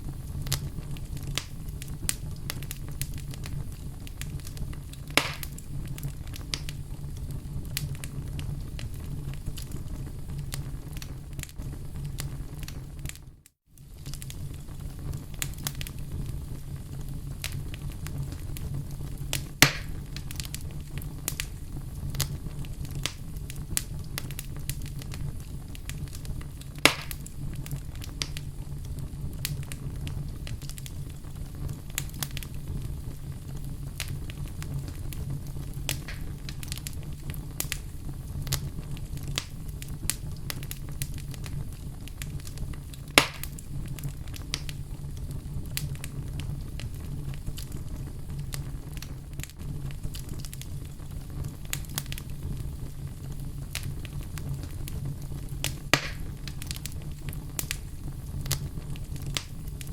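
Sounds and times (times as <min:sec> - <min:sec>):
loud fire pops: 0:00.0 - 0:59.9
wood fire crackling: 0:00.0 - 0:59.9.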